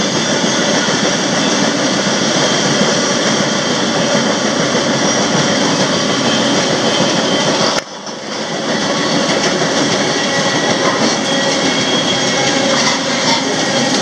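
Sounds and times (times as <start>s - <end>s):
freight train running on rails: 0.0s - 14.0s.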